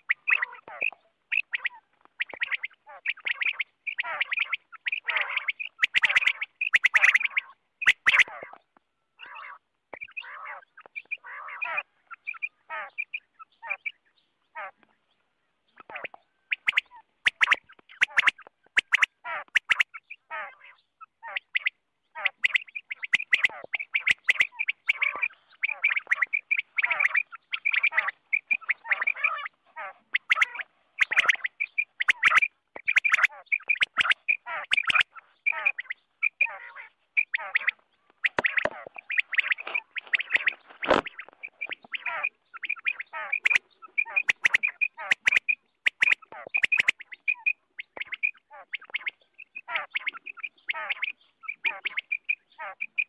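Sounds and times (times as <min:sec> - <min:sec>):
quail calling: 0:00.0 - 0:53.0.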